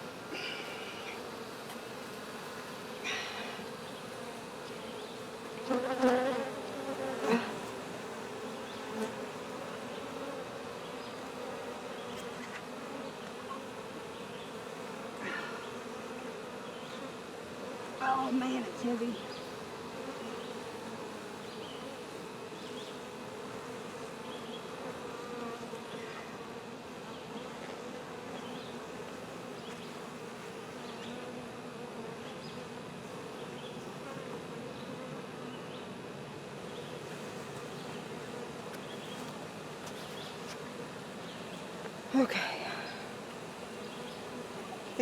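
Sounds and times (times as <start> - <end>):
honey bees buzzing: 0.0 - 45.0.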